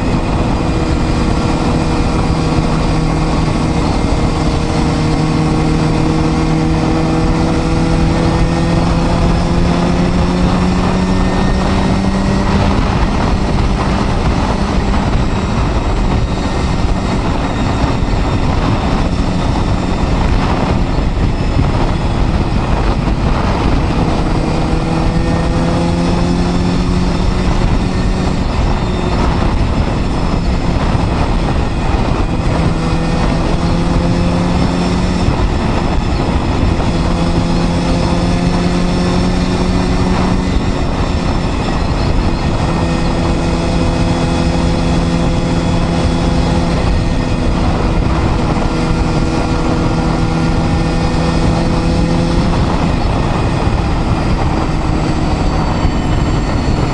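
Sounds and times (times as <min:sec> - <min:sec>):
motorcycle engine running: 0:00.0 - 0:56.9
steady rushing noise: 0:00.0 - 0:56.9.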